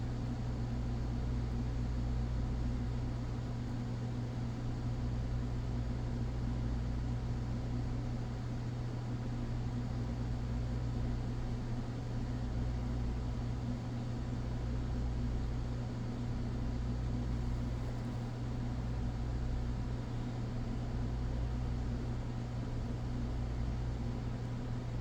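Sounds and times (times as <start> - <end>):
low electrical hum with hiss: 0.0 - 25.0.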